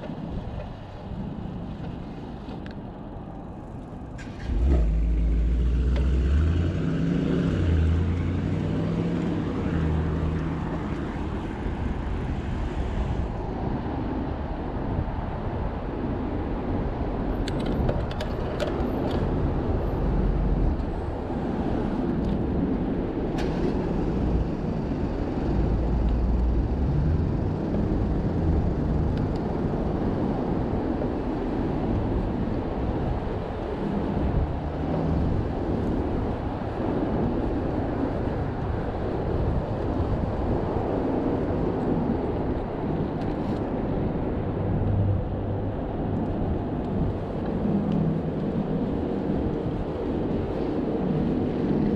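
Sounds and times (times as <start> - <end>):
cars and trucks passing: 0.0 - 51.9
road and wind noise: 0.0 - 51.9.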